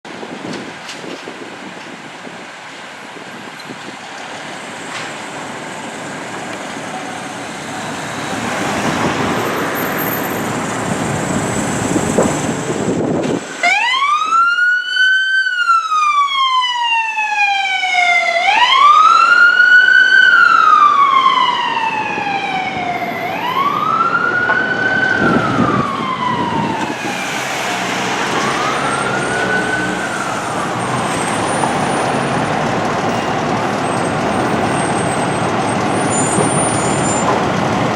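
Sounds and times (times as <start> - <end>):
street traffic: 0.0 - 37.9
heavy engine noise: 0.1 - 14.1, 18.4 - 37.9
fire truck siren wailing: 5.0 - 37.9.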